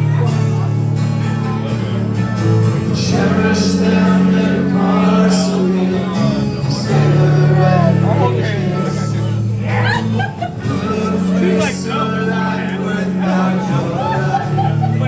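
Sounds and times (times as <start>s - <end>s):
band chords: 0.0s - 15.0s
strummed acoustic guitar: 0.0s - 15.0s
man singing: 2.8s - 15.0s.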